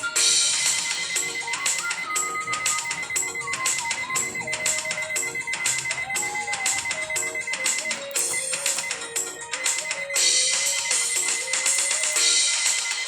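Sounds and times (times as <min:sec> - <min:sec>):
music with percussive beat and synth: 0:00.0 - 0:13.0.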